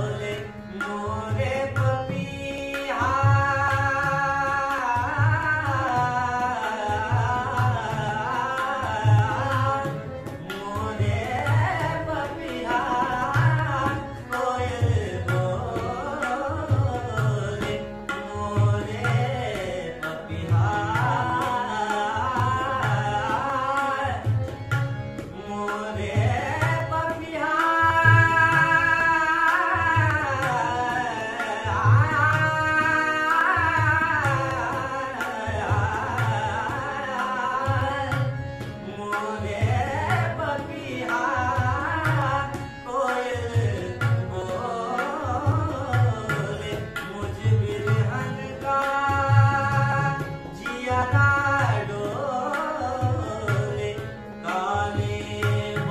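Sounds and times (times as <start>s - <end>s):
harmonium: 0.0s - 55.9s
man singing: 0.0s - 55.9s
tabla drumming: 0.0s - 55.9s.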